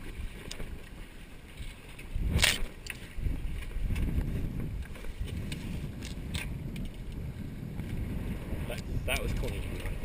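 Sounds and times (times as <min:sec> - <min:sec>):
water slaps and ticks: 0:00.0 - 0:08.0, 0:08.7 - 0:10.0
water washing along hulls: 0:00.0 - 0:10.0
wind buffeting microphone: 0:00.0 - 0:10.0.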